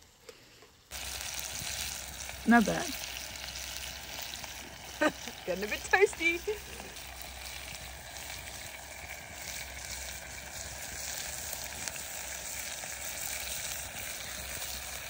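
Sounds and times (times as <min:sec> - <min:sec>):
mushrooms sizzling in a pan: 0:00.9 - 0:15.0.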